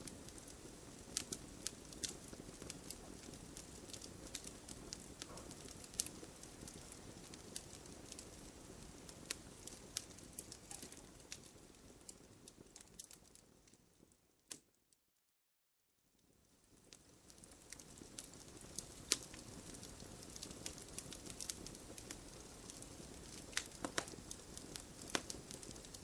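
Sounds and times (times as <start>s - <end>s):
bonfire crackling and popping: 0.0s - 14.7s, 16.2s - 26.0s.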